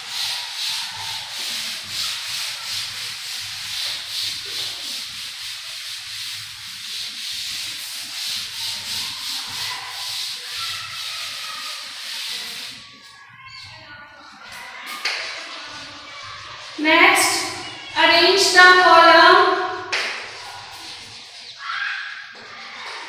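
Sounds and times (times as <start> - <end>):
duster rubbing on chalkboard: 0.0 - 13.7, 14.3 - 21.4.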